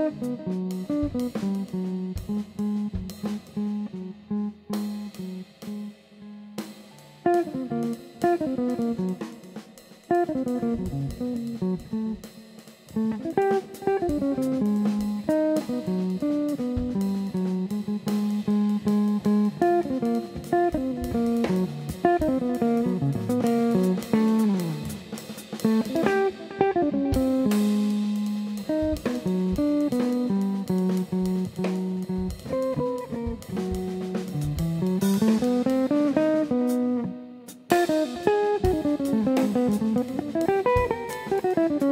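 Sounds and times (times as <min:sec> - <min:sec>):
drum kit: 0:00.0 - 0:41.9
jazz electric guitar: 0:00.0 - 0:41.9.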